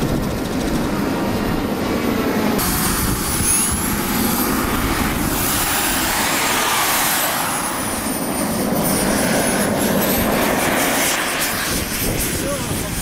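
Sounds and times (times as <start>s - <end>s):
model jet engine whine: 0.0s - 13.0s.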